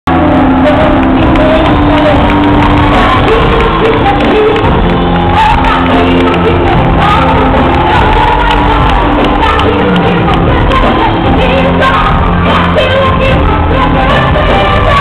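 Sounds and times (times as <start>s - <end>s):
crowd shouting and singing along: 0.1s - 15.0s
gospel band and singers: 0.3s - 15.0s.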